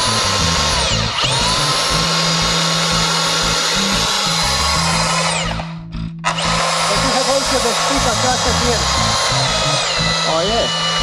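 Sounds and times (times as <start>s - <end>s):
band saw motor whining: 0.0s - 11.0s.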